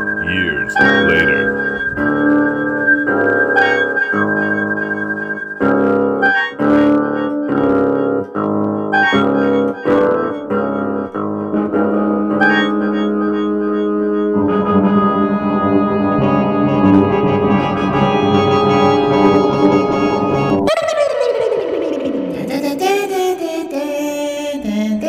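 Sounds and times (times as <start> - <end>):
sustained organ-like chord: 0.0 - 20.7
piano chords: 0.0 - 20.8.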